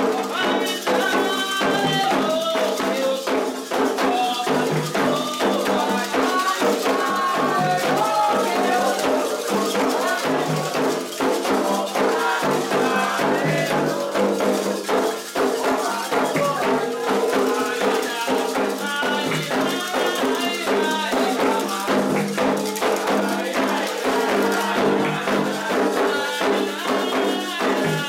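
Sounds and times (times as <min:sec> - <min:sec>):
hand drums: 0:00.0 - 0:28.0
shaken rattles: 0:00.0 - 0:28.0
voices singing: 0:00.0 - 0:28.0.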